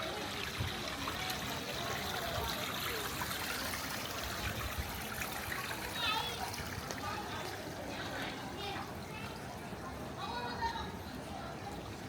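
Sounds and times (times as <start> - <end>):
water trickling: 0.0 - 10.0
faint voices: 0.0 - 12.0.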